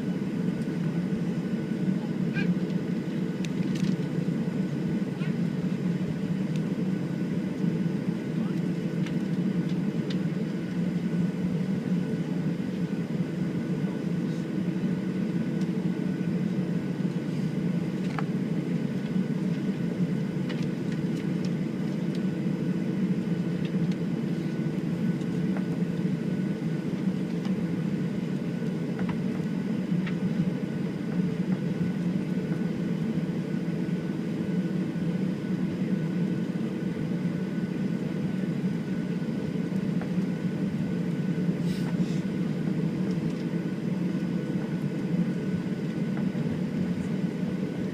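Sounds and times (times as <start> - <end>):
airplane engine drone in cabin: 0.0 - 47.9
faint steady whines: 0.0 - 47.9.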